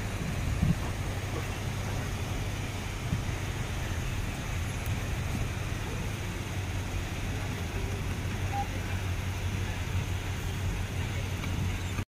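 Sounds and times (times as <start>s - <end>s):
waterfalls rushing: 0.0s - 12.0s
wind on microphone: 0.0s - 12.0s.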